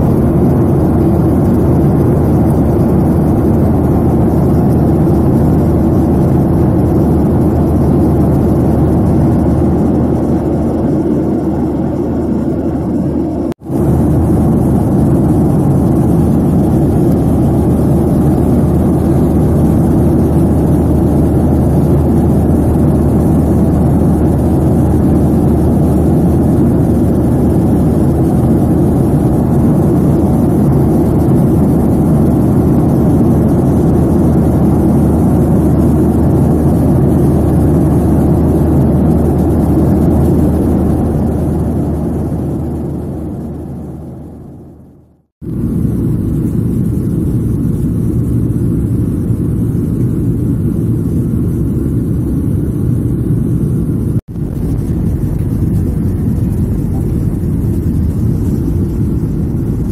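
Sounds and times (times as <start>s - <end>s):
airliner cabin noise: 0.0s - 59.9s.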